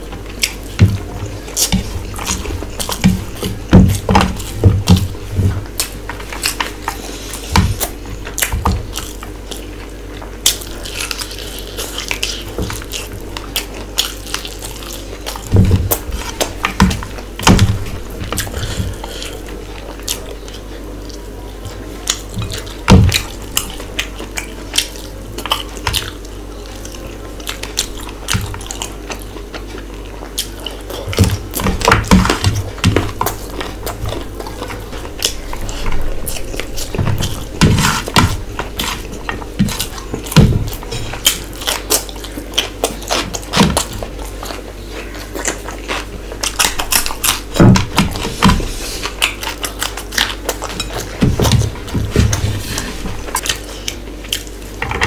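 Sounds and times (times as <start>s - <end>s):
chewing and lip smacks: 0.0s - 54.8s
low steady hum: 0.0s - 55.0s.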